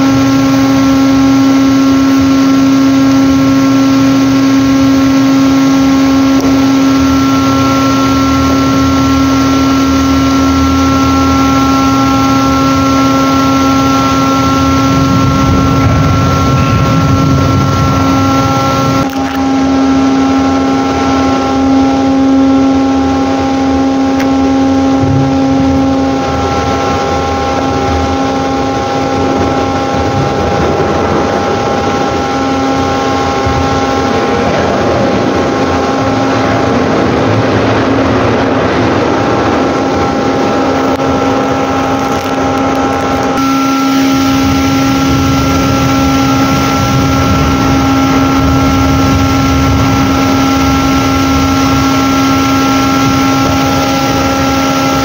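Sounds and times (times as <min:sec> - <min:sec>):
ship machinery droning: 0:00.0 - 0:55.0.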